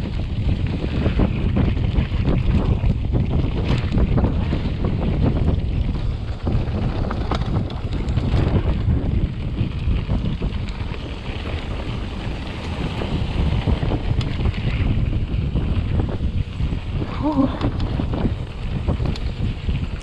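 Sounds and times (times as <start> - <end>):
bike clicks and rattles: 0.0 - 20.0
bike tyre noise on dirt: 0.0 - 20.0
wind buffeting microphone: 0.0 - 20.0.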